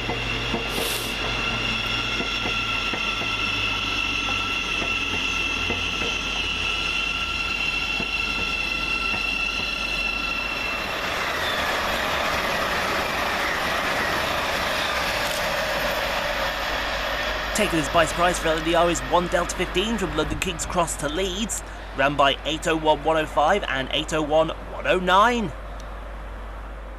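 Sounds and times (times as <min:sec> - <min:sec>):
rushing noise of train passing: 0:00.0 - 0:26.9
train whine with high tones: 0:00.0 - 0:26.9.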